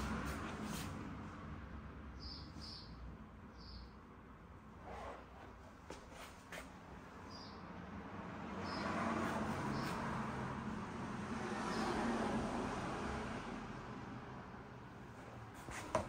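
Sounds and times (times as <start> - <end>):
passing road vehicle rumble: 0.0 - 3.7, 4.4 - 16.0.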